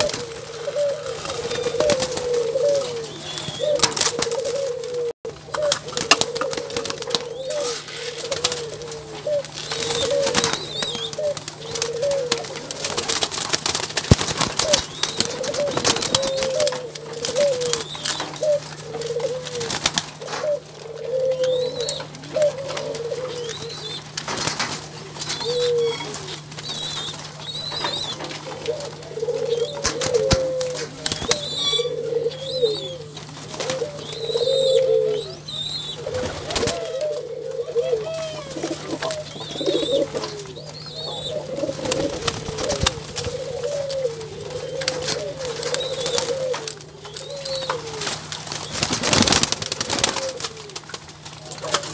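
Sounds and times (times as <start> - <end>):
wing flutters: 0.0 - 32.0, 36.0 - 37.3, 37.9 - 51.9
doves cooing: 0.0 - 51.9
steady low hum: 0.0 - 51.9.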